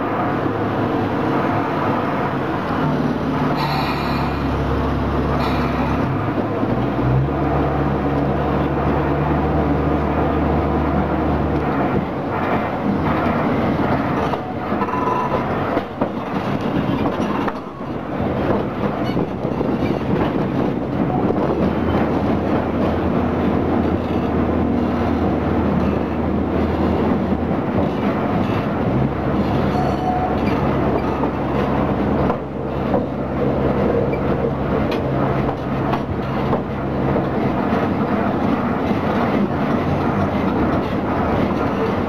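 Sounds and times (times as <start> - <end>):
locomotive diesel engine drone: 0.0 - 42.0
train wheels rattling on rails: 0.0 - 42.0.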